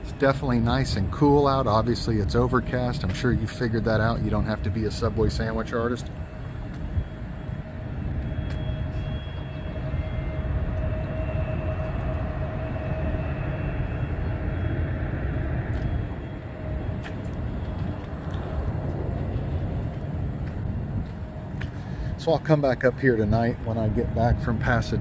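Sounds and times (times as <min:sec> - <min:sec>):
distant traffic rumble: 0:00.0 - 0:25.0
faint steady hum: 0:00.0 - 0:25.0.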